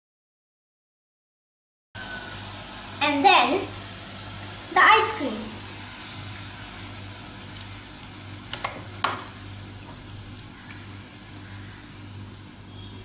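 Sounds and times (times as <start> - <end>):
syrup sizzling on hot plate: 2.0 - 13.0.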